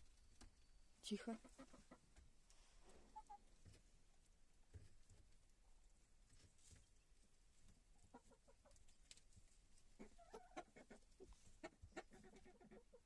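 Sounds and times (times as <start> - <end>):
chickens softly clucking: 1.3 - 13.0.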